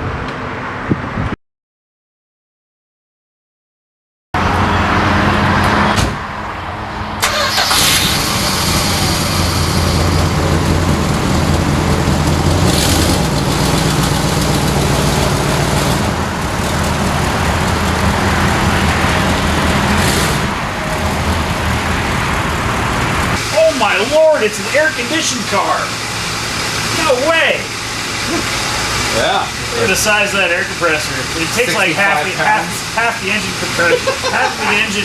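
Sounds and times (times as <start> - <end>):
car engine idling: 4.4 - 35.0.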